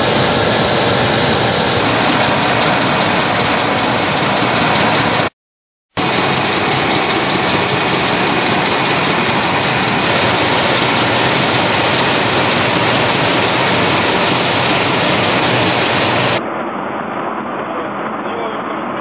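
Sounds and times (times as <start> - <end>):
machinery running: 0.0 - 5.3, 6.0 - 16.8.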